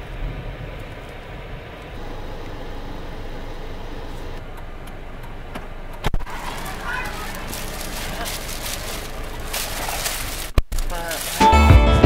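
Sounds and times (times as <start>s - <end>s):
car engine rumble inside cabin: 0.0s - 11.5s.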